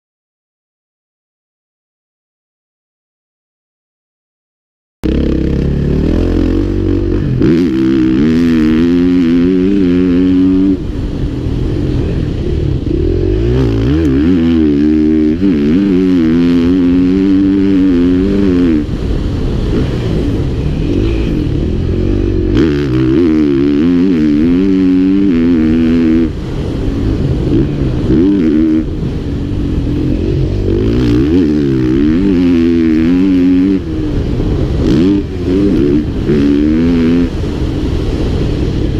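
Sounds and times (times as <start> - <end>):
motocross bike engine revving: 5.0 - 38.9.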